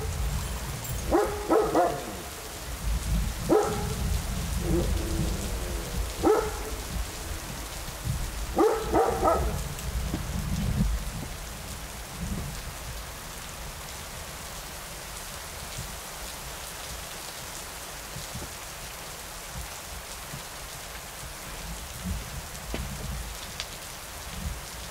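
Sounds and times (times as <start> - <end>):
steady rain: 0.0 - 24.9.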